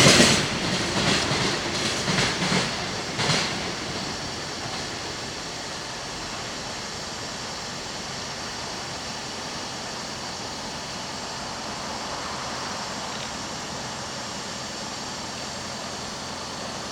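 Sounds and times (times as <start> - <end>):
freight train wagons rolling: 0.0 - 16.9.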